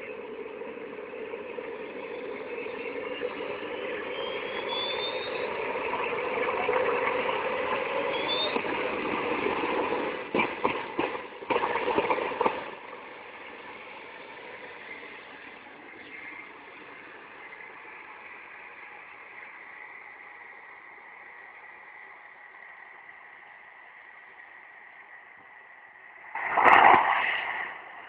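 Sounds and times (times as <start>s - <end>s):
gas turbines rushing with high whine: 0.0s - 28.0s.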